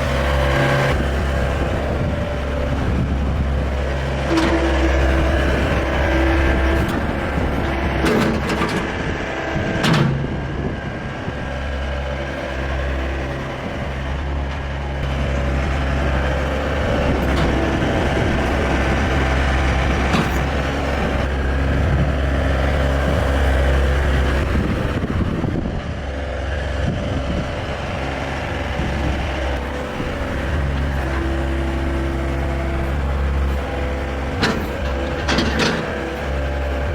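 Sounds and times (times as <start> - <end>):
diesel loader engine running: 0.0 - 36.9.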